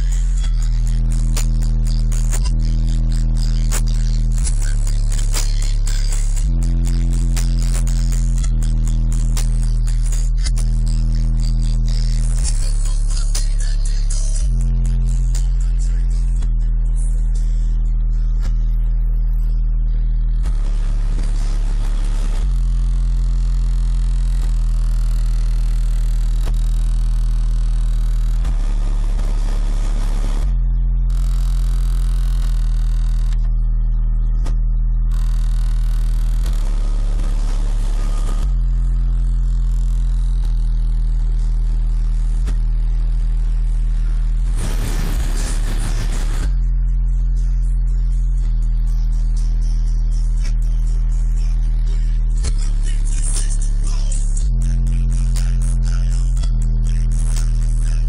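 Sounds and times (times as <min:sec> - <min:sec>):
bass-heavy music from subwoofer: 0:00.0 - 0:58.0.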